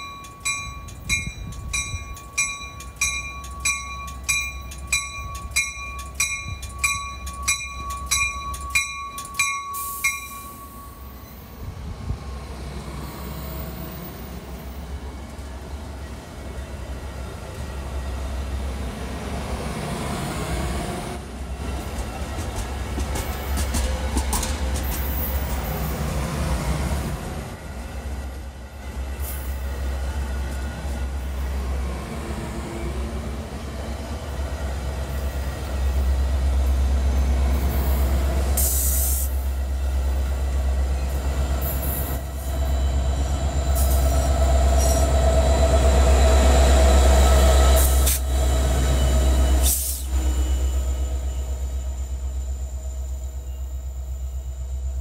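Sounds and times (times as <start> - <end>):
train passing rumble: 0.0 - 55.0.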